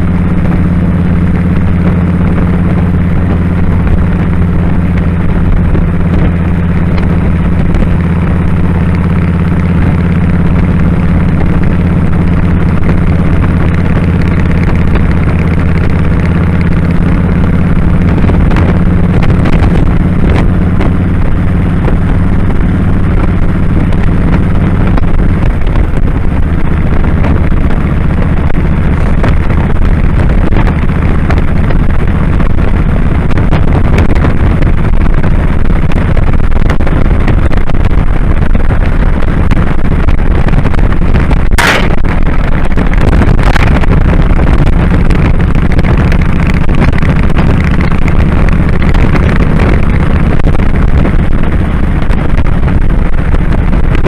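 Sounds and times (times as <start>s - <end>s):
motorcycle engine running: 0.0s - 54.0s
riding wind rushing: 0.0s - 54.0s.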